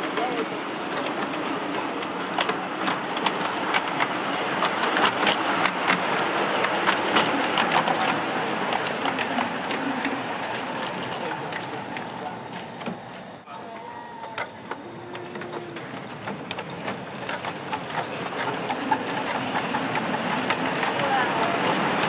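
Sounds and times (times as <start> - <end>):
wheel clicks over rail joints: 1.0 - 22.0.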